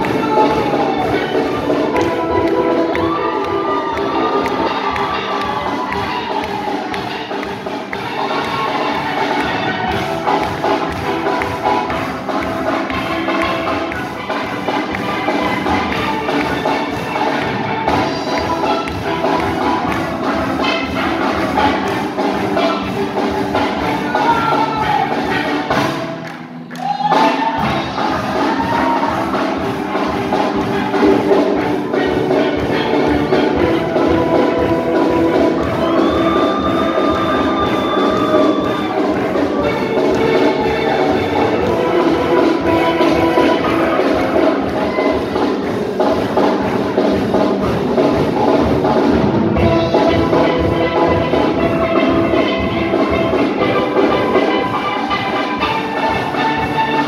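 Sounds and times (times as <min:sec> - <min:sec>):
drum kit: 0:00.0 - 0:57.0
steel pan band playing: 0:00.0 - 0:57.0.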